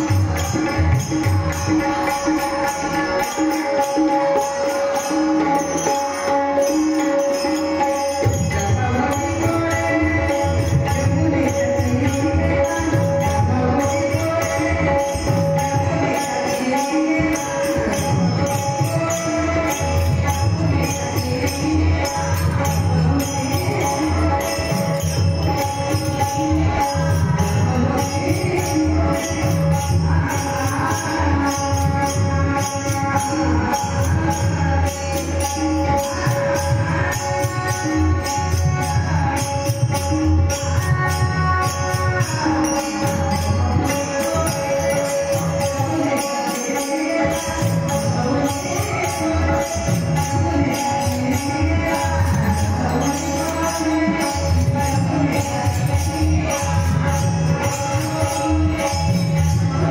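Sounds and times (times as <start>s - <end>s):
fast ticking percussion: 0.0s - 59.9s
tabla strokes: 0.0s - 59.9s.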